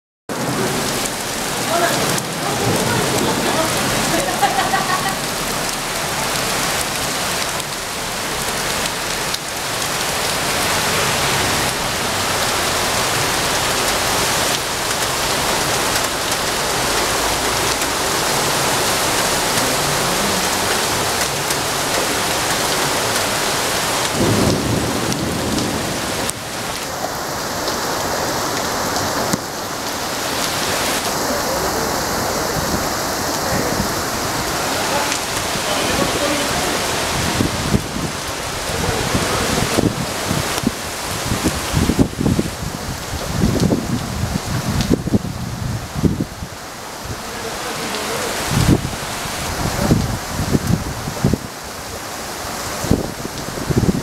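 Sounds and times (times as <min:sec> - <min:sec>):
heavy rain pouring: 0:00.3 - 0:54.0.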